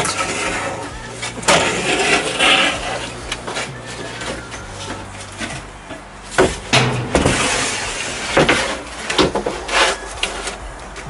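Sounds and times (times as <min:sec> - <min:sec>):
boards scraping on plywood: 0:00.0 - 0:11.0.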